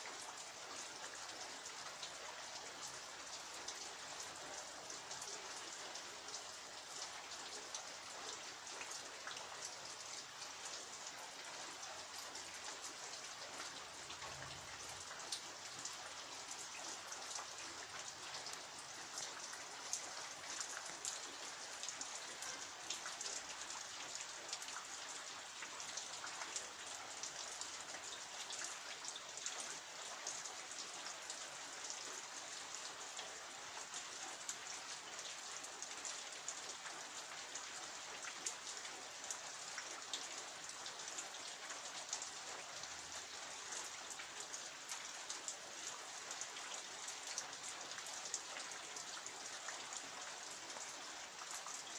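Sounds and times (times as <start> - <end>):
rain pattering on hard surfaces: 0.0 - 51.9.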